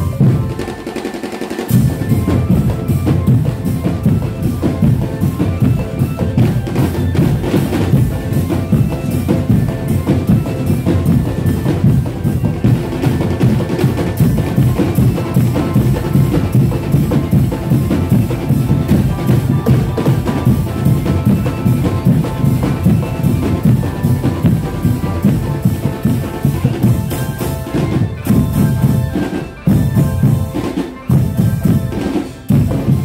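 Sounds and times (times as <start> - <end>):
drum band playing: 0.0 - 33.0
melody line: 1.7 - 33.0.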